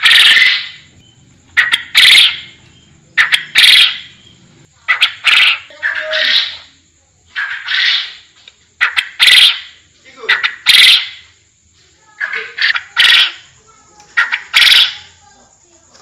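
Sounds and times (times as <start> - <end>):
quail calling: 0.0 - 6.7, 7.3 - 11.4, 12.2 - 15.2.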